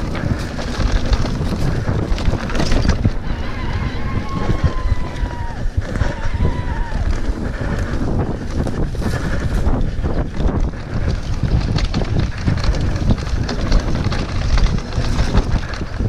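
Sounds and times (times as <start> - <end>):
bike knocks and rattles: 0.0 - 16.0
tyres rumbling on bumpy grass: 0.0 - 16.0
wind buffeting microphone: 0.0 - 16.0.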